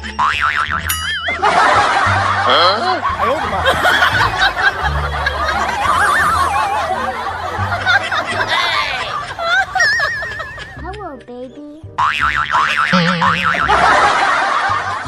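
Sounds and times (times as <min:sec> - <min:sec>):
people laughing: 0:01.1 - 0:11.3, 0:12.8 - 0:15.0.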